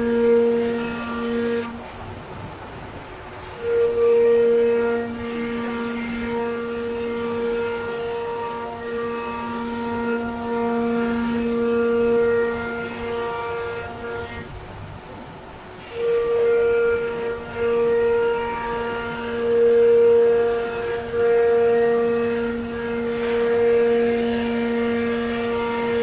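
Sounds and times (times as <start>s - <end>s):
wood router spindle whine: 0.0s - 26.0s.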